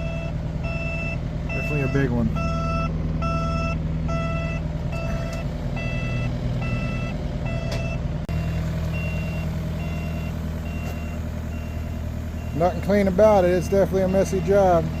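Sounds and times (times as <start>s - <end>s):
backup alarm beeping: 0.0s - 15.0s
diesel machinery running: 0.0s - 15.0s.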